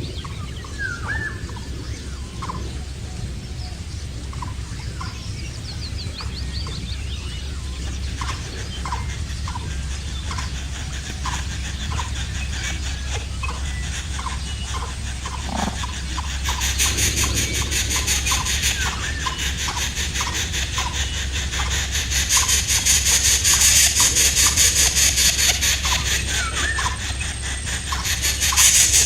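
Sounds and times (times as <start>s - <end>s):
nestling birds squealing: 0.0s - 29.0s.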